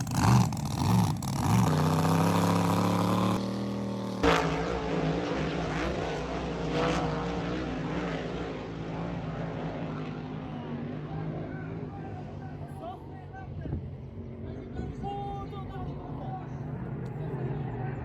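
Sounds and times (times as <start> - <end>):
motor vehicle engine running: 0.0 - 18.0.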